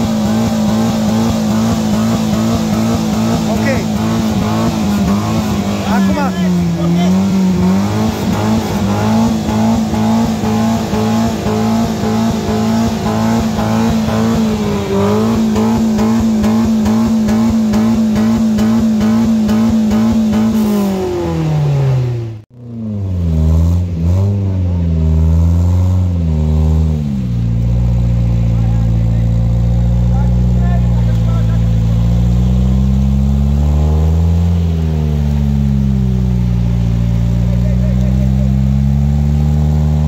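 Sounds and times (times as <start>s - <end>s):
suv engine revving in mud: 0.0s - 40.0s.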